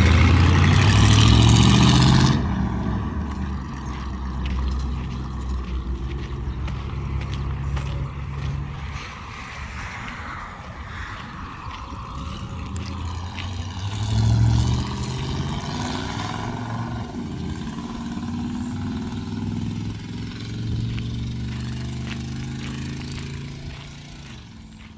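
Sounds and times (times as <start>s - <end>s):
pickup truck engine revving: 0.0s - 9.2s, 12.1s - 24.9s.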